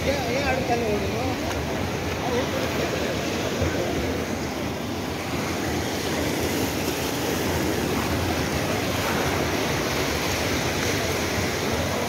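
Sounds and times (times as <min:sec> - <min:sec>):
surf washing over sand: 0:00.0 - 0:12.0.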